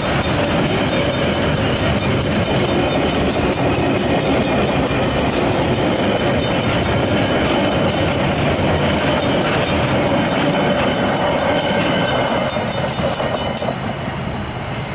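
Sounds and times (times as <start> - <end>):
level crossing warning bell: 0.0 - 14.1
train wheels clattering on rails: 0.0 - 14.2.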